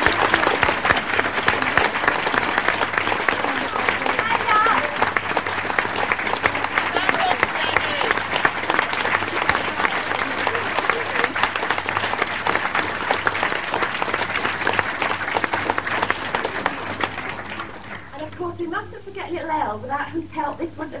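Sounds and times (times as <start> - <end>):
audience applauding: 0.0 - 18.3
low steady hum: 0.0 - 21.0.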